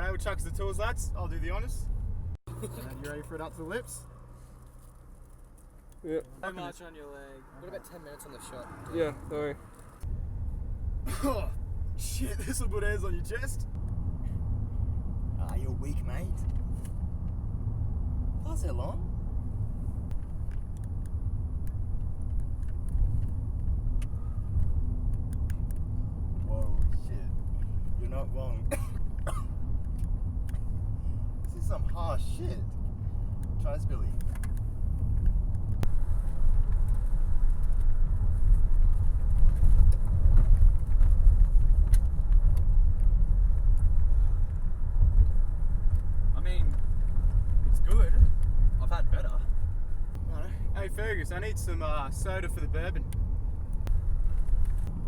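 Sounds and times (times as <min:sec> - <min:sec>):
road and engine rumble in car: 0:00.0 - 0:55.0.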